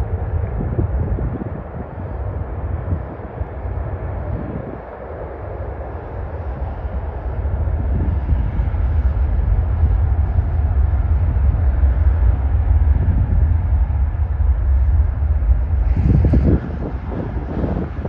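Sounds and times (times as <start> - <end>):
aircraft engines roaring: 0.0 - 18.0.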